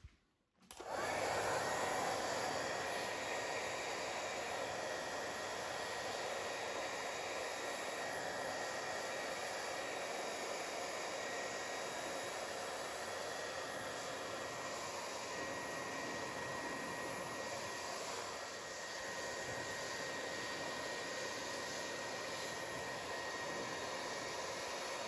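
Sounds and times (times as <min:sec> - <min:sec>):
hair dryer blowing with high whine: 0:00.7 - 0:25.0.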